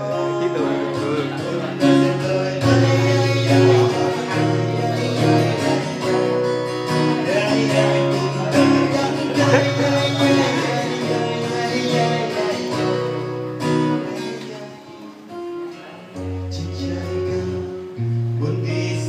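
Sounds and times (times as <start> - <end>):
acoustic guitar strummed: 0.0 - 19.0
man singing: 0.0 - 19.0.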